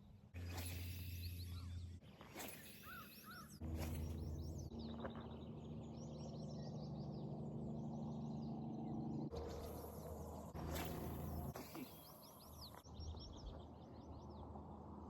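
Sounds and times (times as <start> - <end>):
small songbirds chirping: 2.6 - 15.0.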